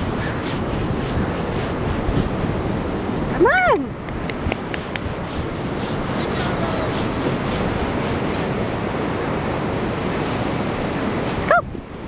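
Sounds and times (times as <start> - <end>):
surf washing: 0.0 - 12.0
wind noise on microphone: 0.0 - 12.0.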